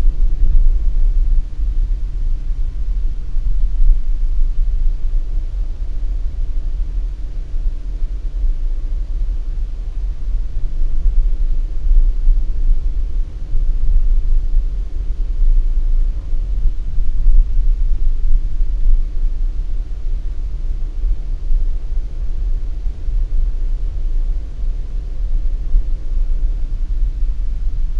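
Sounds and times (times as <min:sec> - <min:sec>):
faint engine drone: 0:00.0 - 0:27.9.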